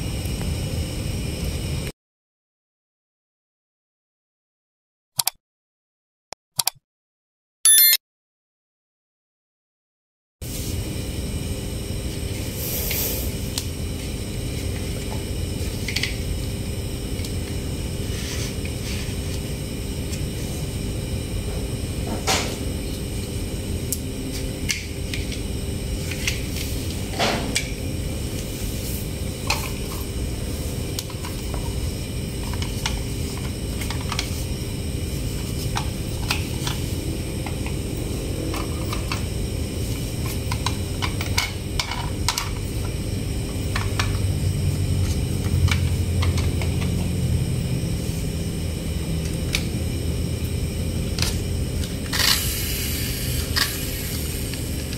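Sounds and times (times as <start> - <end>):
steady background hum: 10.4 - 54.9.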